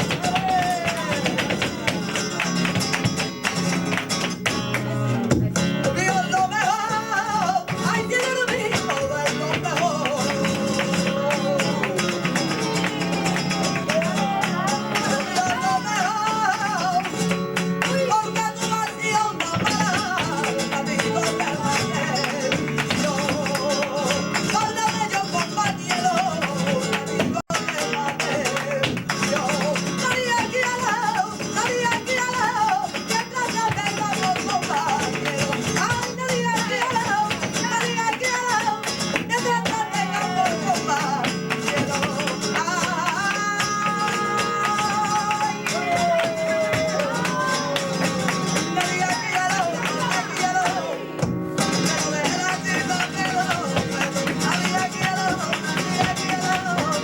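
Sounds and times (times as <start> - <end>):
flamenco guitar: 0.0 - 57.0.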